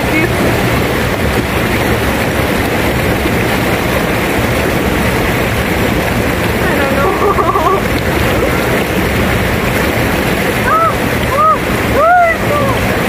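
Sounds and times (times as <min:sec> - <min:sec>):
river water rushing over rapids: 0:00.0 - 0:13.0.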